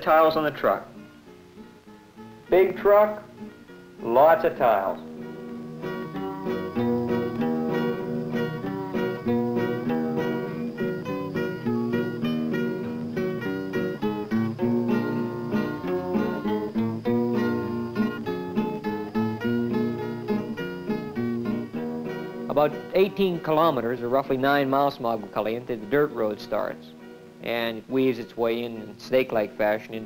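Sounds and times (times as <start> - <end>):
acoustic guitar plucked notes: 0.0 - 30.0.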